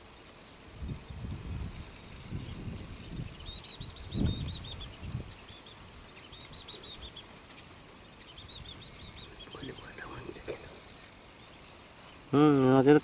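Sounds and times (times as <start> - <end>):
birds chirping squeakily: 1.1 - 13.0.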